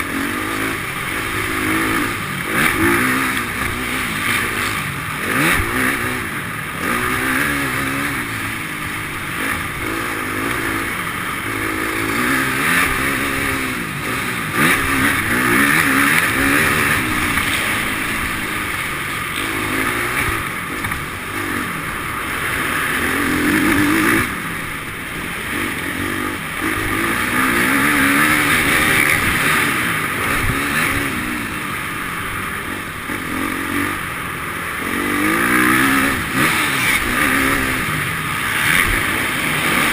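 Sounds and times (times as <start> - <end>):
dirt bike engine revving: 0.0 - 39.9
steady rushing noise: 0.0 - 39.9.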